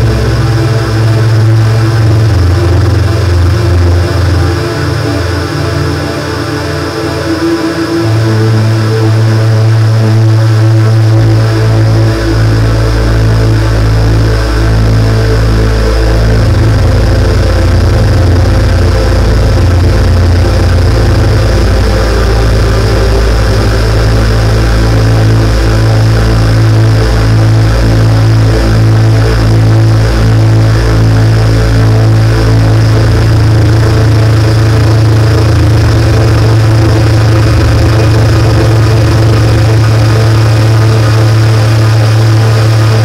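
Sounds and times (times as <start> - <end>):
electronic synthesizer music: 0.0 - 43.0.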